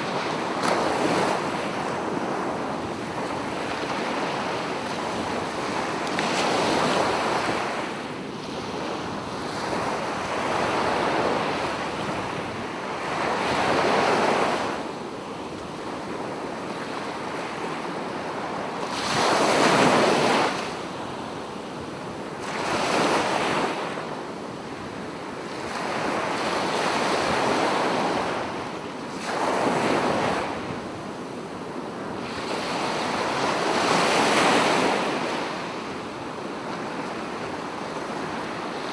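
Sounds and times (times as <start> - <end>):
waves washing up a beach: 0.0 - 38.9.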